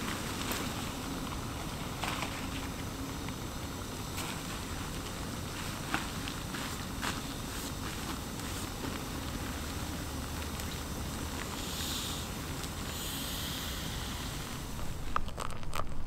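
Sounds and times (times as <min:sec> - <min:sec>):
kettle heating on stove: 0:00.0 - 0:16.0.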